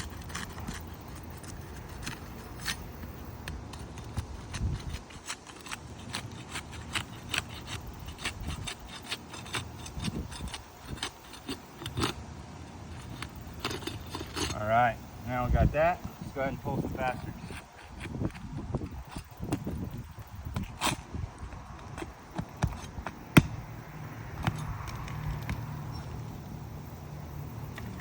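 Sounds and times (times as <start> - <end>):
shingles scraping: 0.0 - 26.0.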